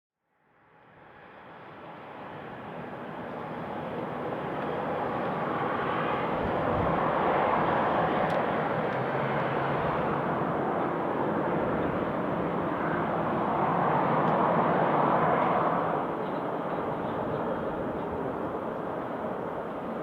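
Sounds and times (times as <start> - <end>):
jet engines running: 1.0 - 20.0.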